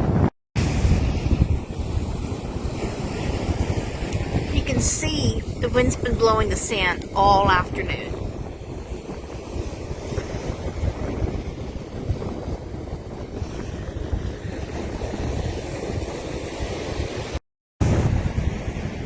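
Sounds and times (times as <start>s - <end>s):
wind buffeting microphone: 0.0s - 19.0s
ocean surf rushing: 0.6s - 19.0s.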